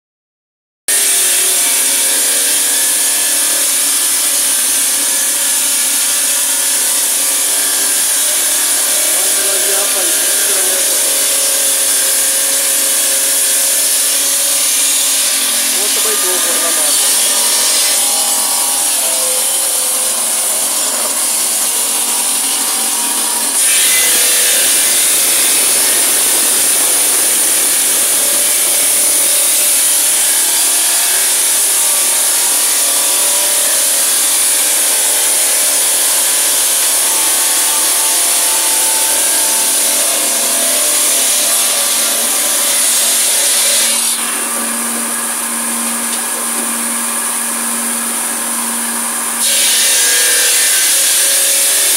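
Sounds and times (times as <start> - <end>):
circular saw cutting stone: 0.9 - 51.9.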